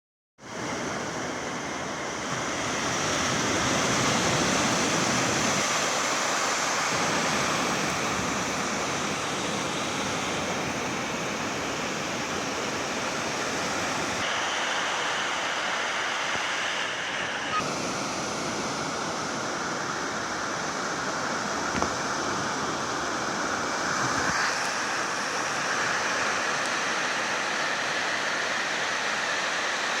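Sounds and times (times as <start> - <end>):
ocean waves breaking on beach: 0.4 - 30.0.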